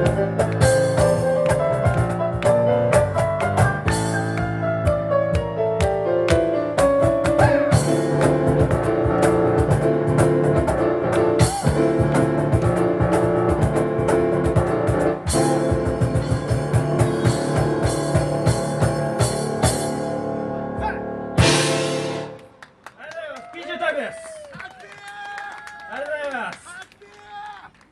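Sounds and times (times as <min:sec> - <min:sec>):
piano chords: 0:00.0 - 0:22.7.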